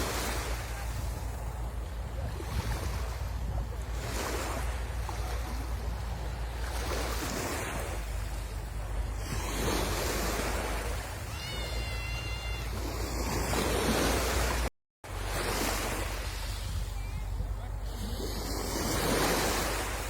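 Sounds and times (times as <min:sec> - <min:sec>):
wind rumble on microphone: 0:00.0 - 0:11.4, 0:12.5 - 0:20.0
sea waves breaking on shore: 0:00.0 - 0:20.0.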